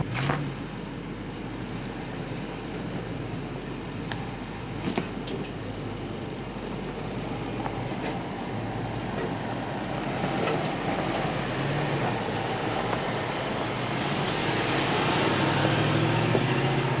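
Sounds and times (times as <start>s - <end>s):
car engine at low speed: 0.0s - 17.0s.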